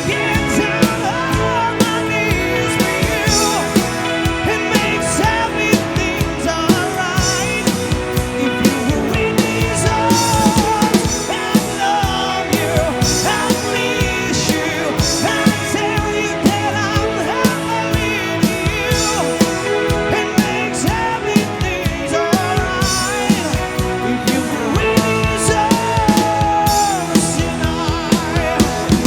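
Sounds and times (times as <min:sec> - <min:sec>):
lead singer: 0:00.0 - 0:29.0
live rock band playing: 0:00.0 - 0:29.0.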